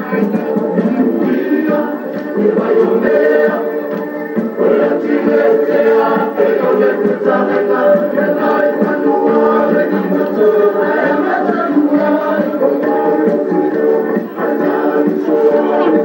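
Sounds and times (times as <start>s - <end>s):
group singing in chorus: 0.0s - 16.0s.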